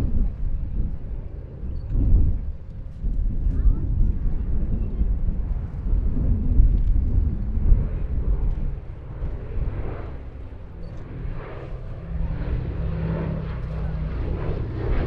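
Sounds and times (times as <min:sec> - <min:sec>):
propeller plane droning past: 0:00.0 - 0:15.0.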